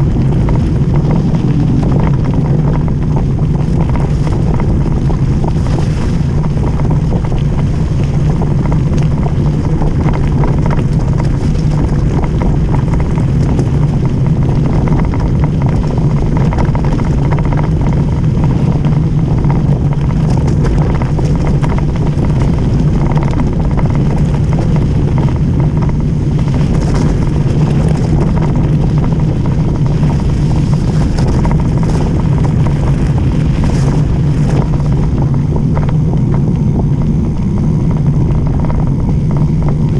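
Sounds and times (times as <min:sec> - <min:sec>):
bike tyres and wind rumbling: 0:00.0 - 0:39.9
gravel clicks and bike rattles: 0:00.0 - 0:39.9.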